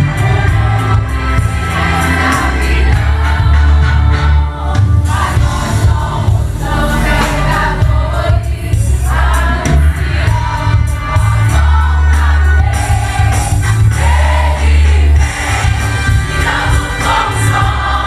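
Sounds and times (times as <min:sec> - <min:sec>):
band with heavy bass: 0:00.0 - 0:18.0
group of voices singing: 0:00.0 - 0:18.0.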